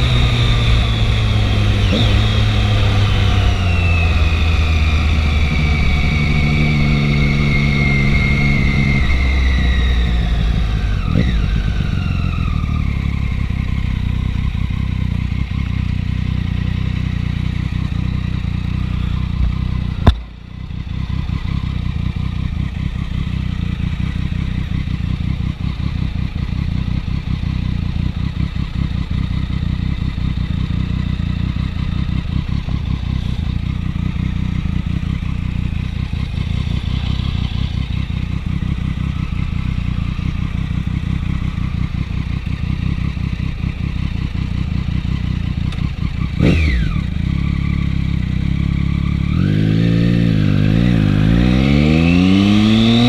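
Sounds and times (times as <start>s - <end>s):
motorcycle engine: 0.0s - 53.0s.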